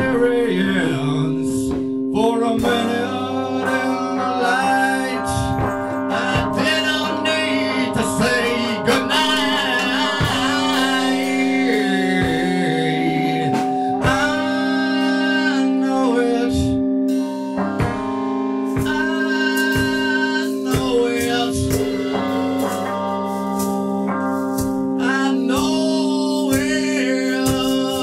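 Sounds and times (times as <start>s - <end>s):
guitar: 0.0s - 28.0s
person singing: 0.0s - 28.0s
steady beat: 0.0s - 28.0s.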